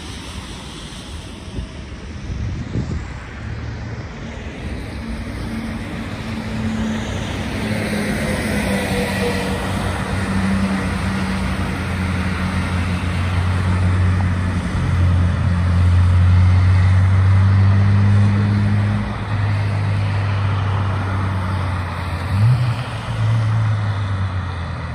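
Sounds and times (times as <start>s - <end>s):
heavy truck engine drone: 0.0s - 24.9s.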